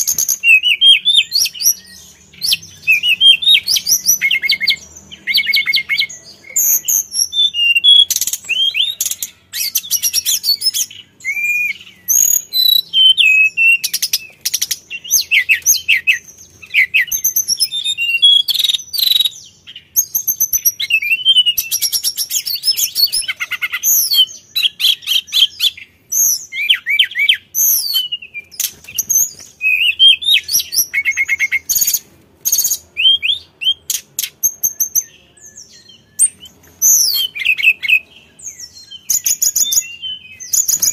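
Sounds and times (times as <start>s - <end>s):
bird singing whistles and trills: 0.0s - 40.9s.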